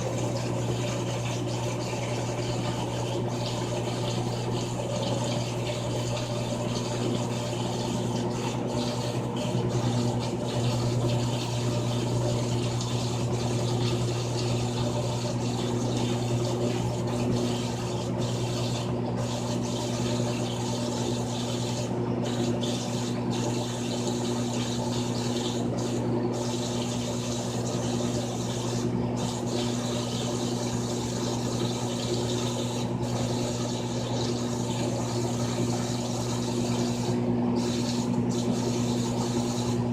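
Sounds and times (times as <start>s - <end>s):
washing machine motor hum: 0.0s - 39.9s
water sloshing in washer: 0.0s - 39.9s.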